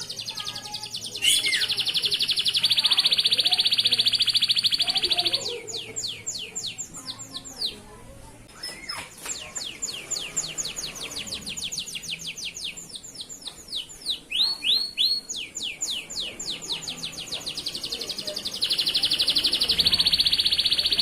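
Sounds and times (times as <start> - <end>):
canary singing: 0.0 - 21.0.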